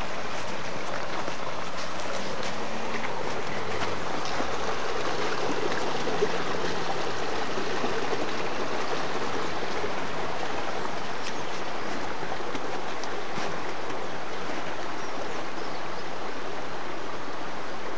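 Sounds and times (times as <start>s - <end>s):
brook flowing over stones: 0.0s - 17.9s.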